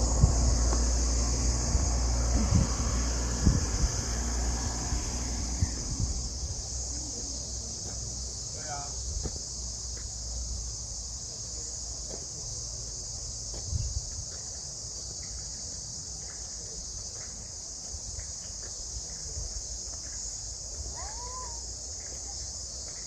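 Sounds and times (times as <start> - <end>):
cicadas chorus: 0.0 - 23.0.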